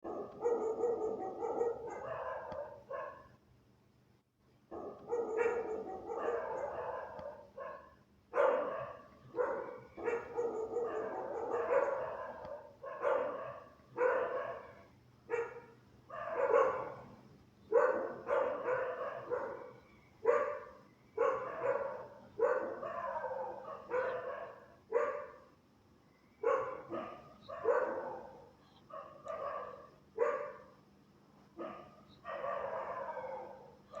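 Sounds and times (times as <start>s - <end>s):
dog barking angrily: 0.0s - 3.3s, 4.7s - 17.1s, 17.7s - 25.4s, 26.4s - 30.7s, 31.6s - 34.0s.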